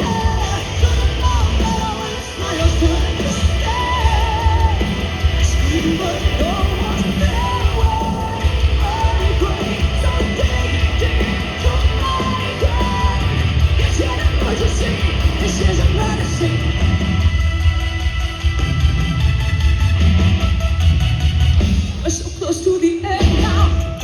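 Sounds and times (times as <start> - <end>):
hard rock band playing: 0.0 - 24.0.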